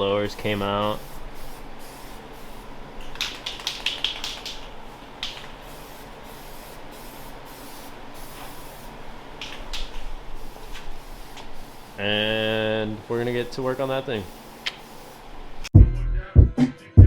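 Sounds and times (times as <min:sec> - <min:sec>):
paint spraying hiss: 0:00.0 - 0:15.7
sharp spray spurts: 0:00.3 - 0:15.4.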